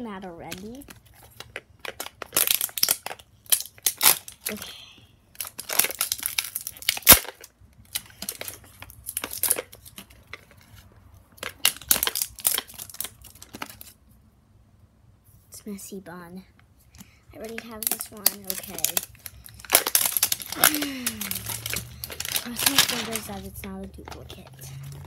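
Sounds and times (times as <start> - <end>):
plastic wrapping crinkling: 0.0 - 14.0, 17.3 - 25.0.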